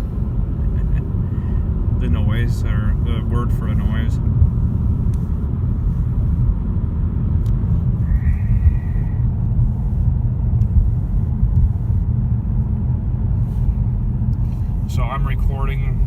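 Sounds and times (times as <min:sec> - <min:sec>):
tyre and road noise hum: 0:00.0 - 0:16.0.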